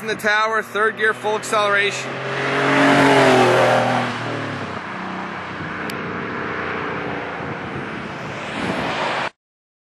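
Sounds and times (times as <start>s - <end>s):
car accelerating past: 1.3s - 9.3s.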